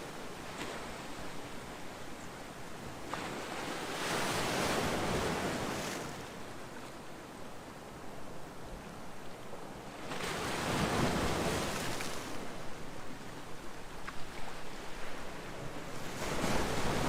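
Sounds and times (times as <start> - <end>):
calm sea waves washing in: 0.0 - 17.0.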